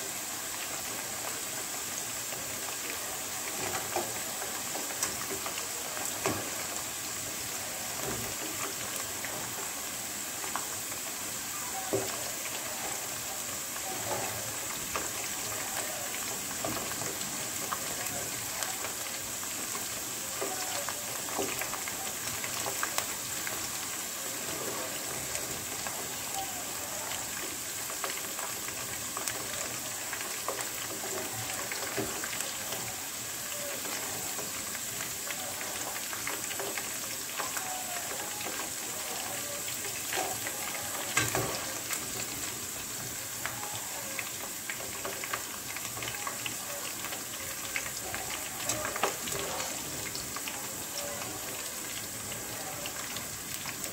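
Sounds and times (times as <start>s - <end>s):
vegetables sizzling in hot oil: 0.0s - 53.9s
oil crackles and pops: 0.5s - 53.9s.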